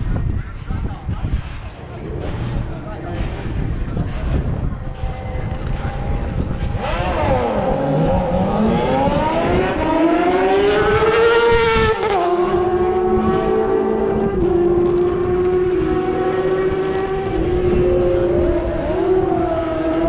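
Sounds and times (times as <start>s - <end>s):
car engine at full throttle: 1.2s - 20.0s.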